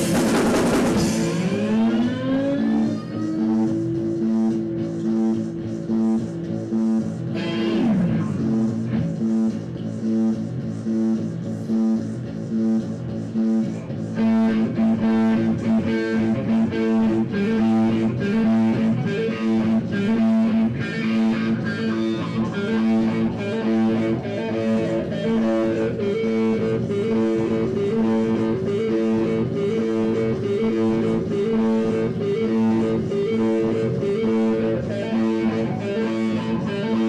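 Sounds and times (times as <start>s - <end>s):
guitar: 0.0s - 37.0s.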